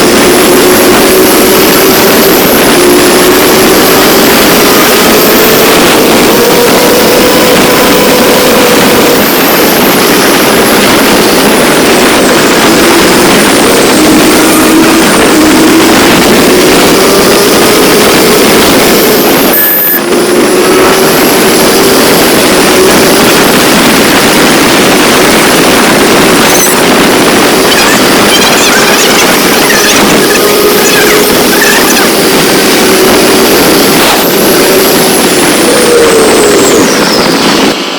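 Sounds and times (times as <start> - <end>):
motorcycle engine: 0.0 - 37.9
wind noise on microphone: 0.0 - 37.9.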